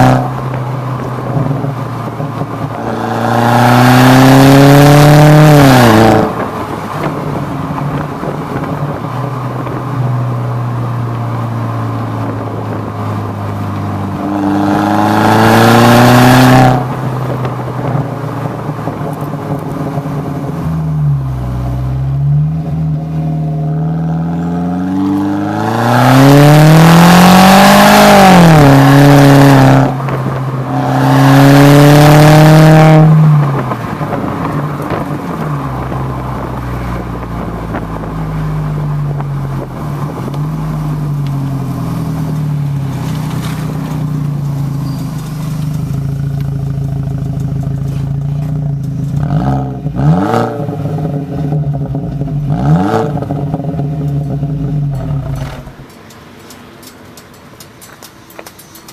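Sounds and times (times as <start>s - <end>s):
car exhaust revving: 0.0s - 55.9s.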